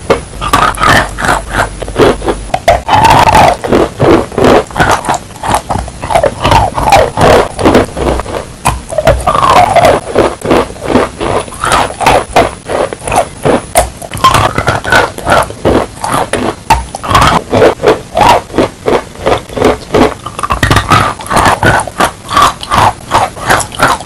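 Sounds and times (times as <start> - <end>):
wet crunchy chewing: 0.1 - 24.0.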